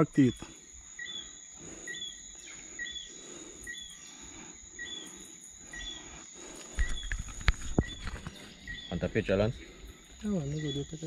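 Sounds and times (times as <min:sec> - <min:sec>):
insects buzzing: 0:00.0 - 0:11.0
two-note insect chirp: 0:00.0 - 0:11.0.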